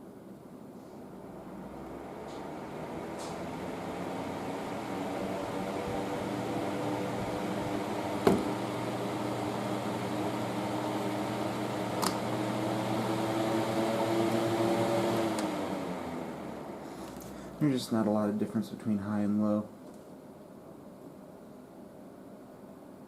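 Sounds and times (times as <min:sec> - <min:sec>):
box fan humming: 0:00.0 - 0:23.0.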